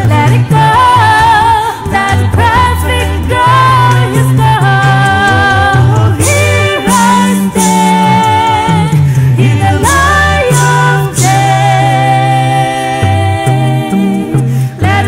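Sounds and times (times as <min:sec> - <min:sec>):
a cappella group singing: 0:00.0 - 0:15.0.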